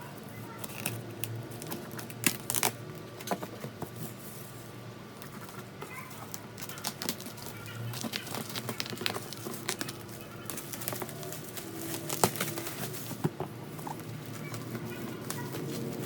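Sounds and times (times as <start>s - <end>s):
packaging rustling: 0.5s - 3.9s, 5.4s - 16.0s.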